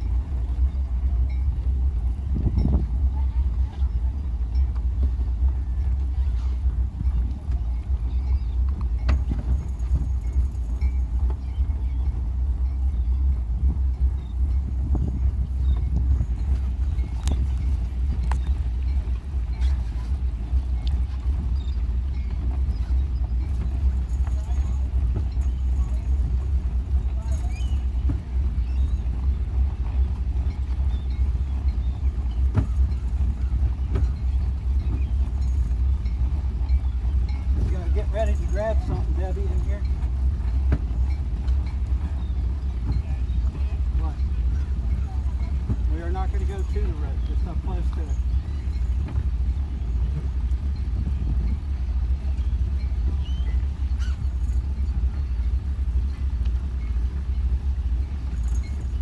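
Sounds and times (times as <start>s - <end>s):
boat engine rumbling: 0.0s - 59.0s.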